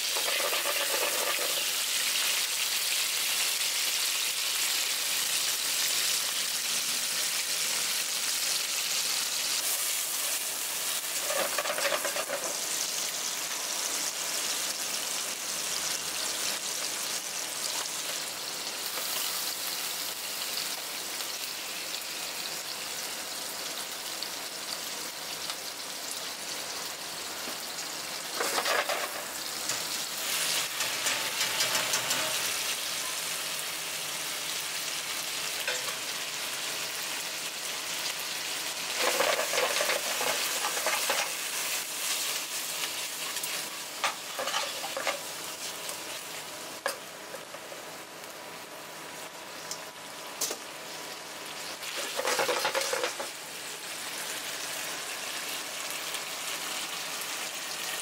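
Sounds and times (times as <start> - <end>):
spaghetti sizzling in a frying pan: 0.0 - 58.0.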